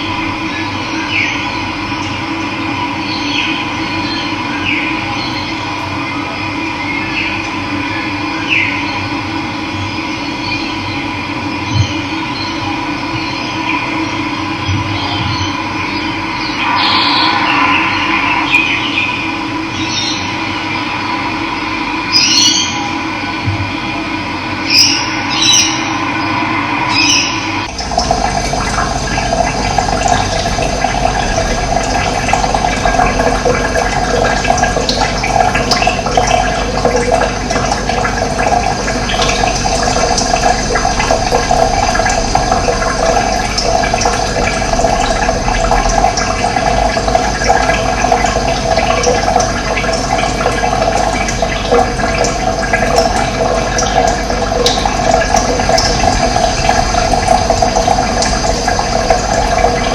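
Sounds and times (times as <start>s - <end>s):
running water: 0.0s - 8.8s, 13.2s - 22.9s, 24.6s - 59.9s.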